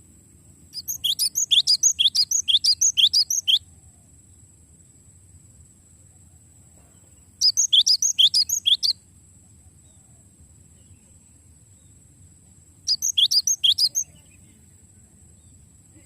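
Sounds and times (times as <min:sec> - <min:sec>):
bird chirping: 0:00.7 - 0:05.0, 0:06.8 - 0:16.0.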